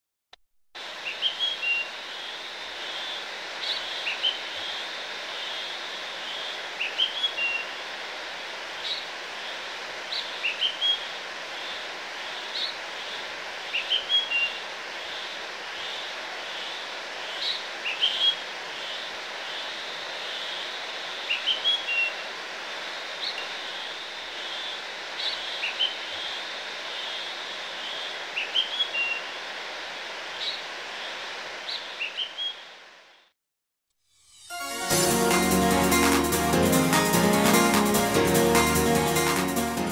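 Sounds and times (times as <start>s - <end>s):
steady hiss: 0.8s - 33.2s.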